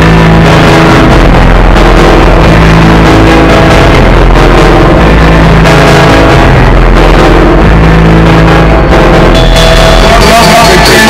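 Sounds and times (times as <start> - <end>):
distorted electronic alarm tones: 0.0 - 11.0.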